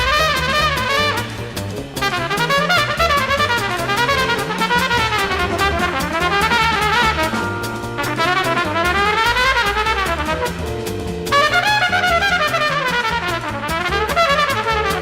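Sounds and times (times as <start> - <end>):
backing track with bass and drums: 0.0 - 15.0
trumpet playing fast runs: 0.0 - 15.0.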